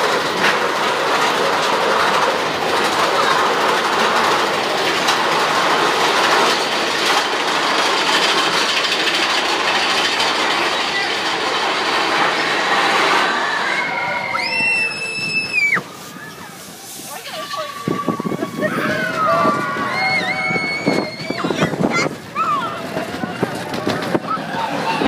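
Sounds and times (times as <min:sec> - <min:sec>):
roller coaster wheels rumbling on rail: 0:00.0 - 0:25.0.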